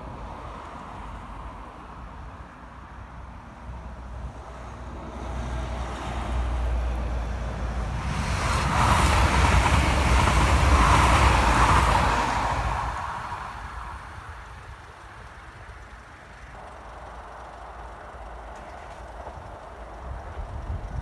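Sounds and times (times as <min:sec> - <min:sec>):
train passing at speed: 0:00.0 - 0:21.0.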